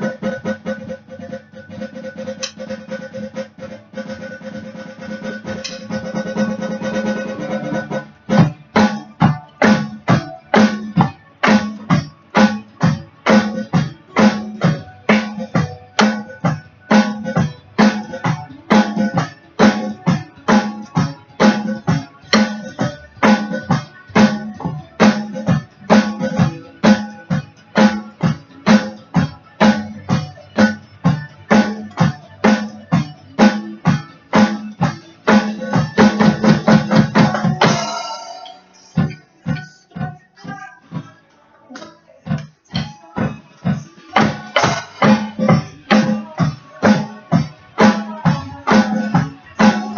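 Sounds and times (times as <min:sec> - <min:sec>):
drum kit beat: 0:00.0 - 0:41.2, 0:41.8 - 0:49.9
recorded rock song: 0:00.0 - 0:49.9.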